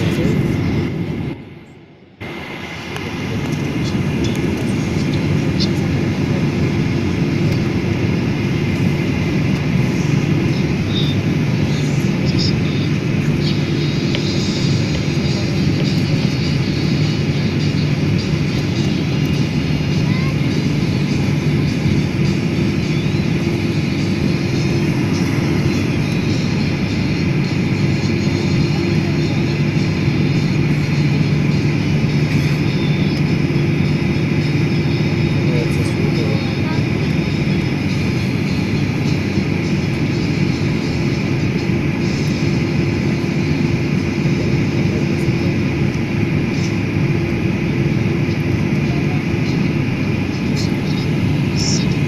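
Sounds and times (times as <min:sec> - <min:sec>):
jet engines and airflow rushing: 0:00.0 - 0:52.0
low constant hum: 0:00.0 - 0:52.0.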